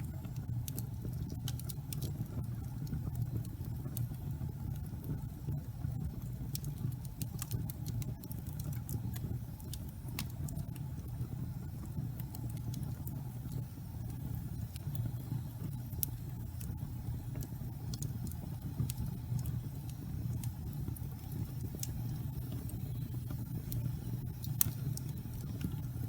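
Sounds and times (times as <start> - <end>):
fire flames rushing: 0.0 - 26.0
wood crackling and popping: 0.0 - 26.0.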